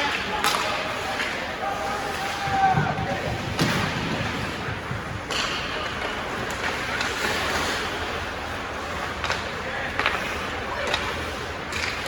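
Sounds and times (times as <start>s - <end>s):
ice rink noise: 0.0s - 12.0s.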